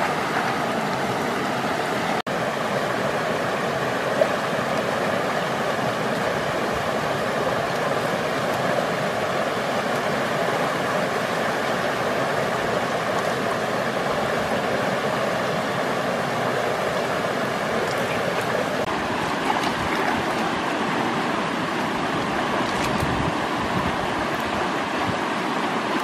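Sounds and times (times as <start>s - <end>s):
stream rushing over stones: 0.0s - 26.0s.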